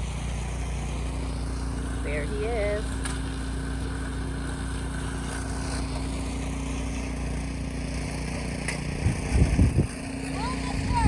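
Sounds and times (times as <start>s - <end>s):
snow blower engine running: 0.0s - 11.0s.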